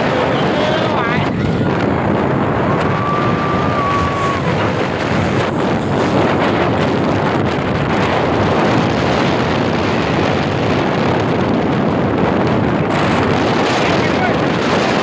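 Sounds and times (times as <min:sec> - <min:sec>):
speedboat engine running: 0:00.0 - 0:15.0
wind buffeting microphone: 0:00.0 - 0:15.0.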